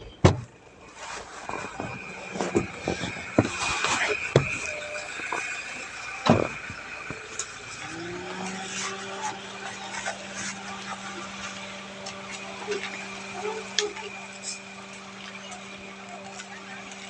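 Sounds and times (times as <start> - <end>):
vehicle hum: 0.0 - 17.0.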